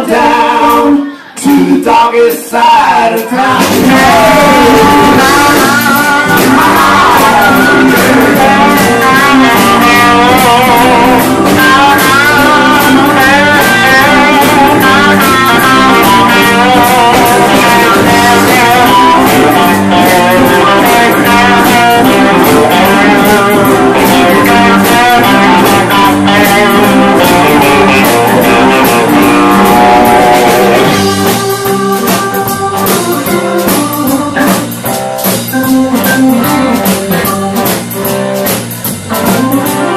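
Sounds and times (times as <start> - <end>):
blues-rock band playing: 0.0 - 2.3, 2.9 - 39.9
lead guitar bending lines: 3.6 - 39.9.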